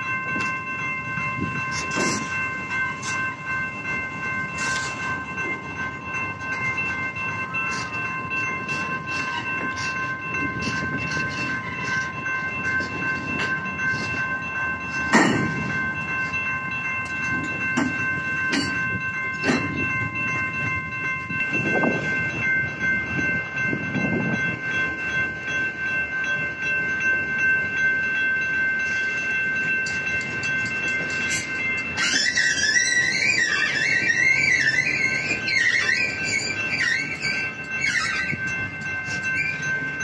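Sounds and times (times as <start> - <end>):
high-pitched ringing tones: 0.0 - 40.0
train cars clanking: 0.0 - 40.0
train wheels rumbling: 0.0 - 40.0.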